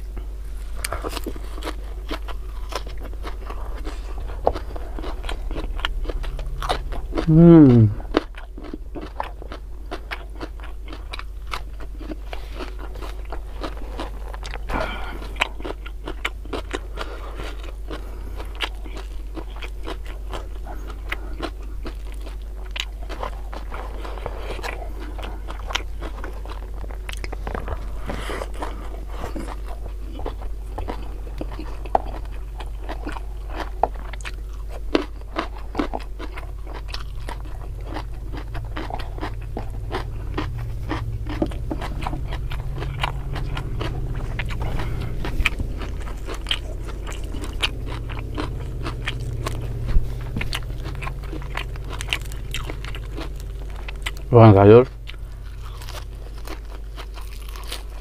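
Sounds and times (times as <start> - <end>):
close chewing and crunching food: 0.0 - 58.0
steady low hum: 0.0 - 58.0.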